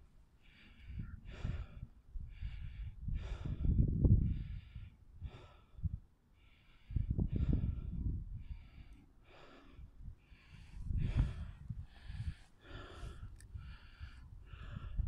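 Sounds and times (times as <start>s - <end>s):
wind buffeting the microphone: 0.8s - 6.1s, 6.8s - 15.0s.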